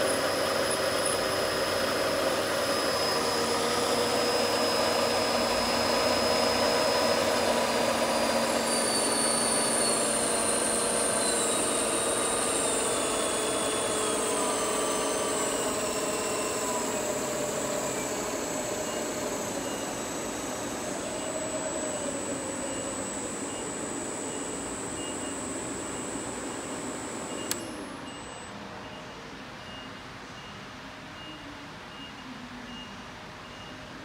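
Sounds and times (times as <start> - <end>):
milling machine spindle whining: 0.0 - 28.5.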